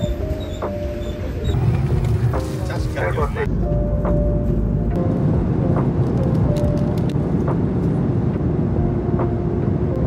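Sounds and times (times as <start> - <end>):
faint background music: 0.0 - 10.0
airliner cabin engine rumble: 0.6 - 10.0.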